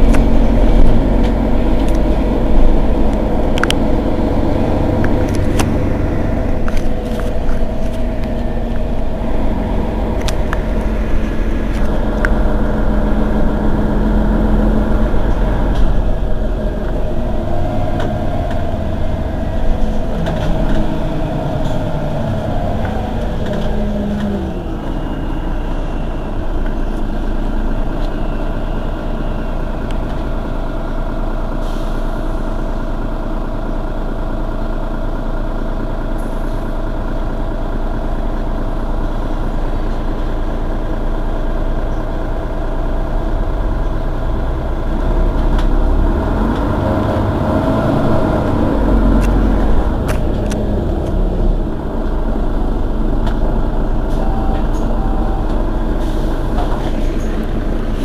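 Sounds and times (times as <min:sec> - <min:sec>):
bus engine running: 0:00.0 - 0:58.0.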